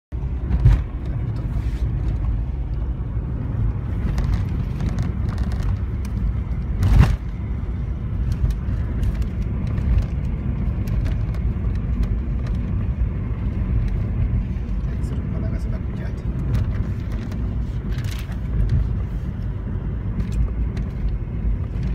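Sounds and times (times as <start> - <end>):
car road noise on wet road: 0.2 - 21.9.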